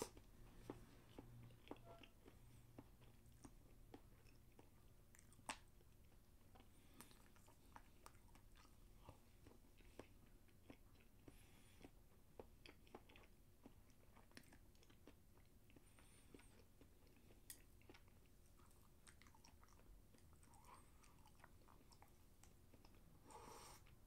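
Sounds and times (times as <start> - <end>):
chewing food: 0.0 - 24.0.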